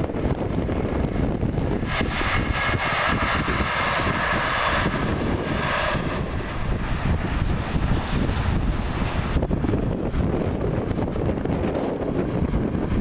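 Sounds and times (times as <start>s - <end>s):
wind buffeting microphone: 0.0s - 13.0s
train passing: 0.7s - 13.0s.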